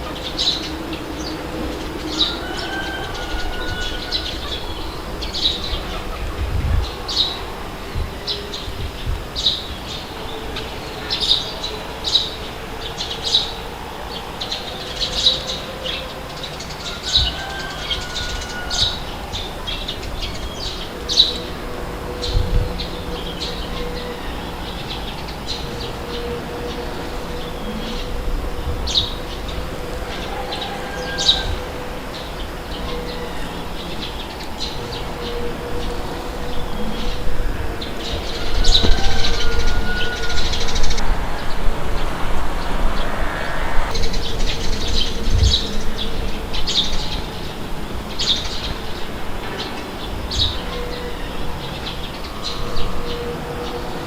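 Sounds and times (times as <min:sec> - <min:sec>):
birds chirping: 0:00.0 - 0:54.0
low rumble of wind: 0:00.0 - 0:54.0.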